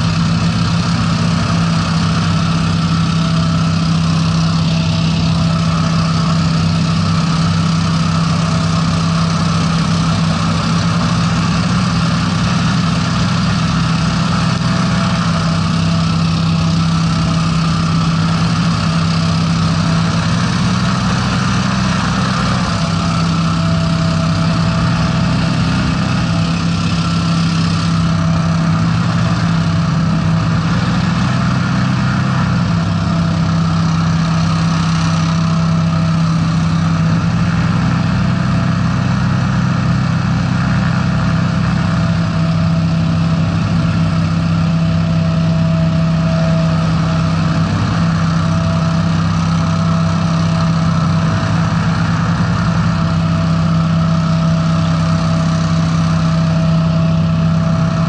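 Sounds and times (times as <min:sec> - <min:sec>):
hovercraft engines droning: 0:00.0 - 0:58.0.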